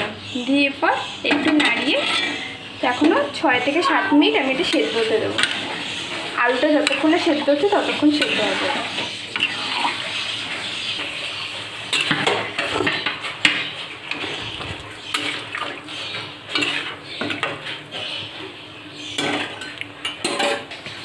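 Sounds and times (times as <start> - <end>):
steady cooking hiss: 0.0 - 21.0
metal spatula scraping pan: 1.3 - 20.7.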